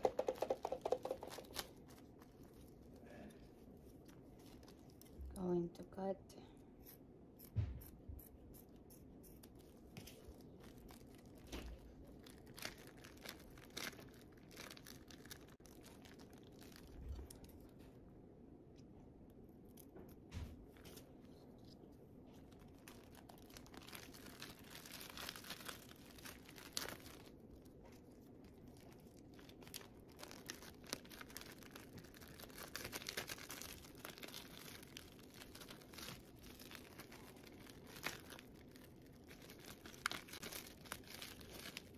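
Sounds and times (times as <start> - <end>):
plastic film crinkling: 0.0 - 5.4, 8.7 - 18.0, 20.7 - 41.9.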